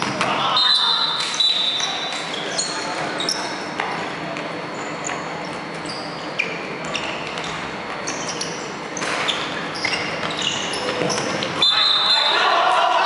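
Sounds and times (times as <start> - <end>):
shoes squeaking on wooden court: 0.0 - 12.3
sports hall background: 0.0 - 13.0.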